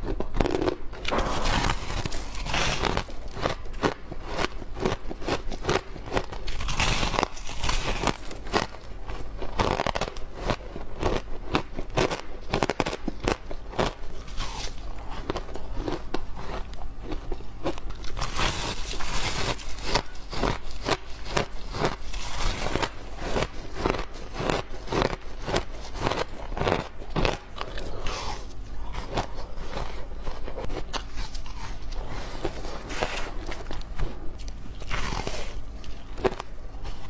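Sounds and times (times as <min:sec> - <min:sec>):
ice being chewed crunching: 0:00.0 - 0:37.0.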